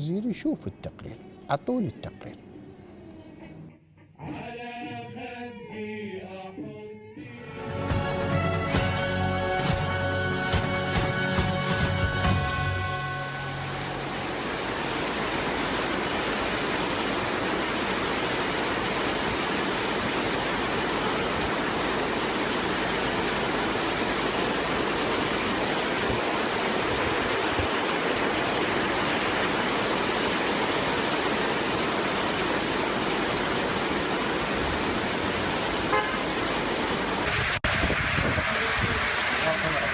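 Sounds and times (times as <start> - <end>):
rain and water rushing on road: 7.5 - 39.9.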